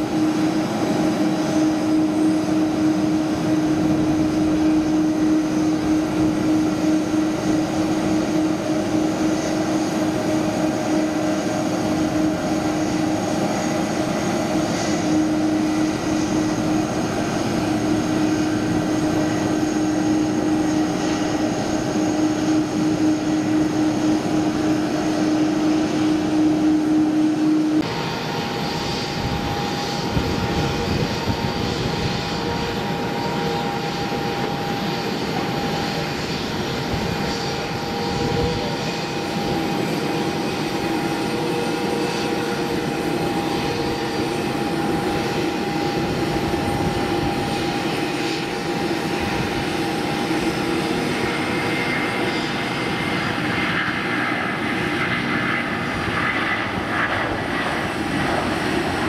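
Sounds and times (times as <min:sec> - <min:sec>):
jet engines humming: 0:00.0 - 0:59.0
jet engines on takeoff roll: 0:00.0 - 0:59.0.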